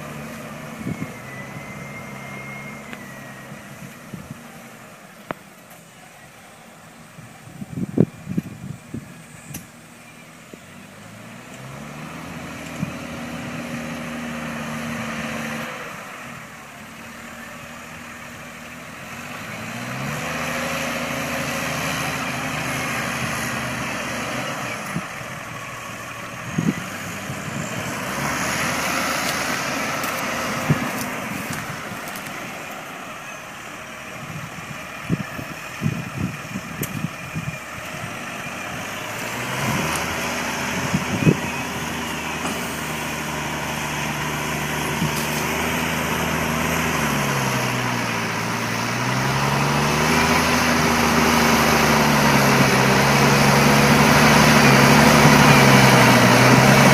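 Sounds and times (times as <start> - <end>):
tractor engine under load: 0.0 - 56.9.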